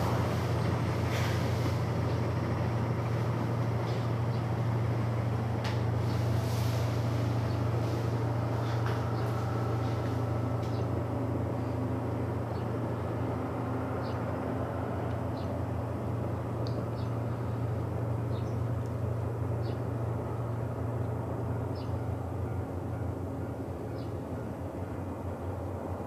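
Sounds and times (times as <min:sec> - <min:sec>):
diesel train engine droning: 0:00.0 - 0:26.0.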